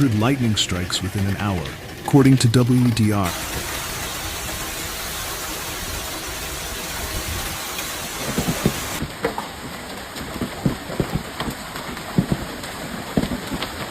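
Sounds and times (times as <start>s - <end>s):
hailstones striking hard surfaces: 0.0s - 13.9s
heavy rain and hail hissing: 0.0s - 13.9s.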